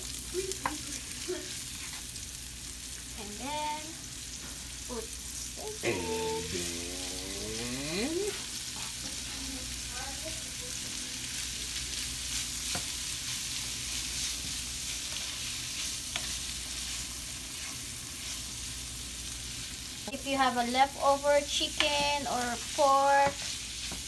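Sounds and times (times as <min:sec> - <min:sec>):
steak sizzling in a pan: 0:00.0 - 0:24.0.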